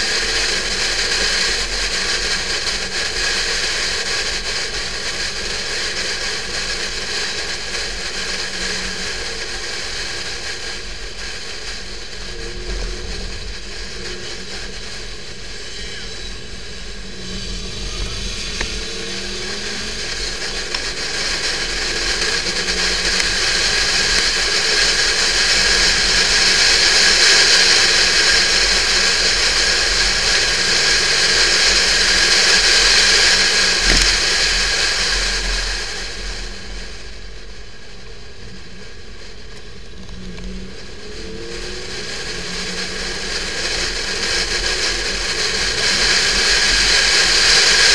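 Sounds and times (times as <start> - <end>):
car engine running: 0.0 - 47.9
wind and road noise: 0.0 - 47.9.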